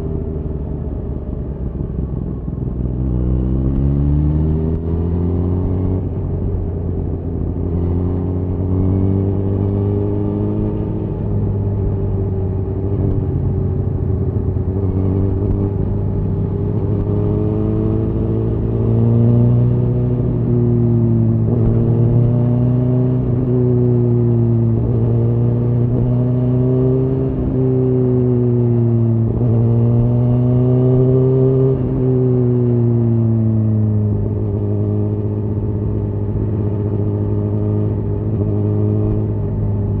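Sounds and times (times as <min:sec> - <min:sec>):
motorcycle engine revving: 0:03.0 - 0:40.0.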